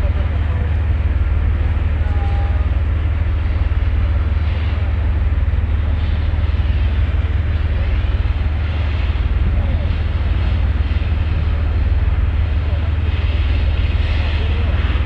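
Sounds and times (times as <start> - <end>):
ferry low rumble: 0.0 - 15.0.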